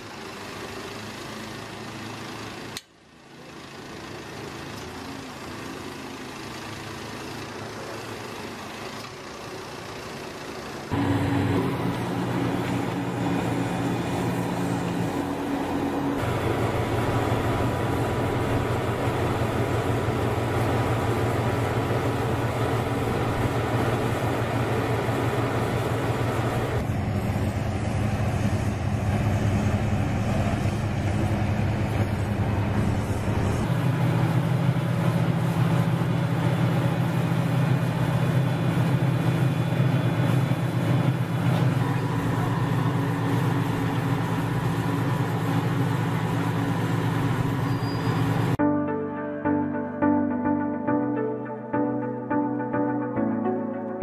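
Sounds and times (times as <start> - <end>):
heavy machinery engine drone: 0.0 - 48.6.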